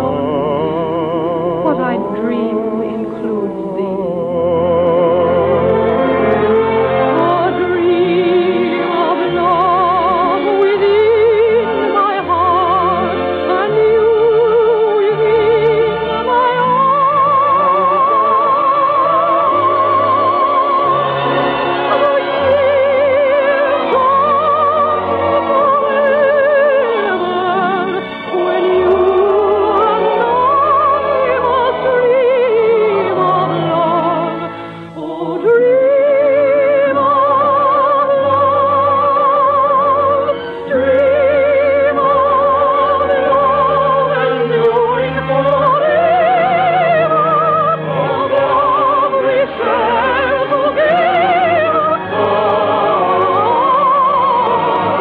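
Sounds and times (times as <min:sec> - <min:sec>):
person singing operatically: 0:00.0 - 0:34.4, 0:35.0 - 0:55.0
orchestra playing: 0:00.0 - 0:55.0.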